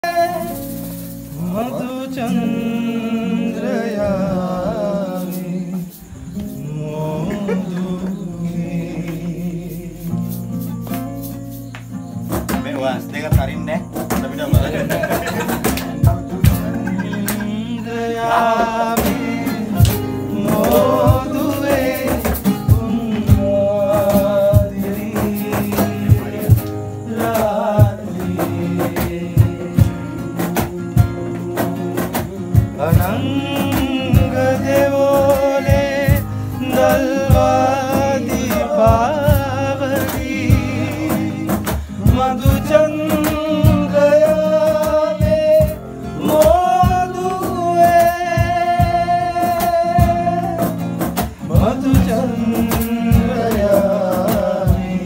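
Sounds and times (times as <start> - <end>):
man singing: 0.0 - 10.7, 14.3 - 55.0
strummed acoustic guitar: 0.0 - 55.0.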